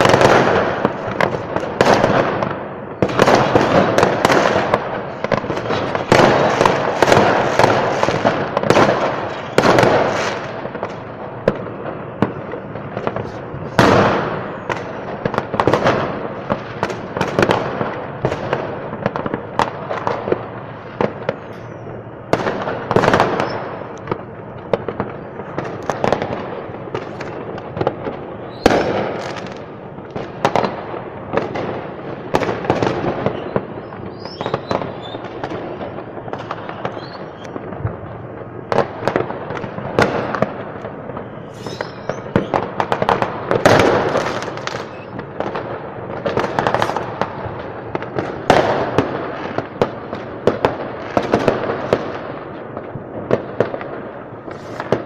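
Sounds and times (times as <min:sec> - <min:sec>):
fireworks bangs and crackling: 0:00.0 - 0:55.0
sharp firework bangs: 0:00.0 - 0:55.0.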